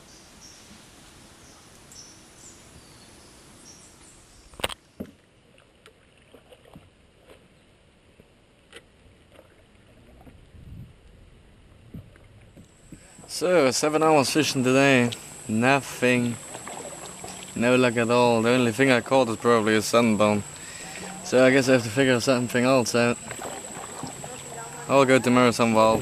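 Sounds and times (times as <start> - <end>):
small boat on a river: 0.0 - 26.0.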